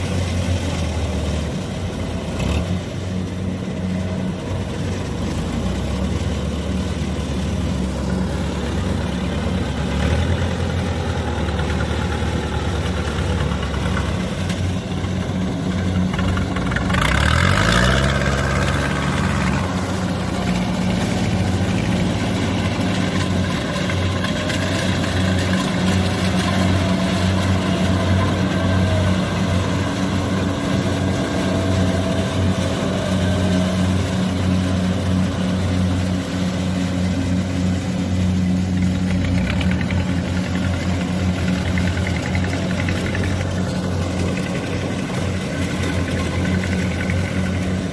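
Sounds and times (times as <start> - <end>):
combine harvester diesel engine: 0.0 - 47.9.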